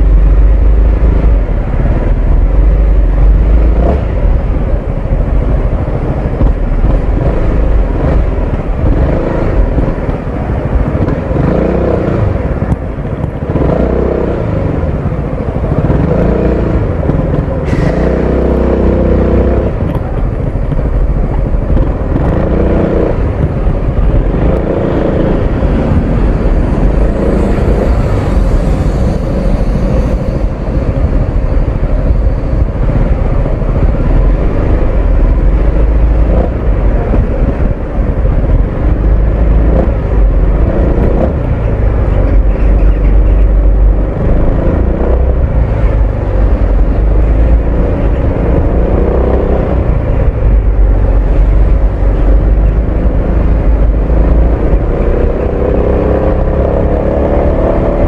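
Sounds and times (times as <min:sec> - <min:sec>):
scooter engine and exhaust: 0:00.0 - 0:58.0.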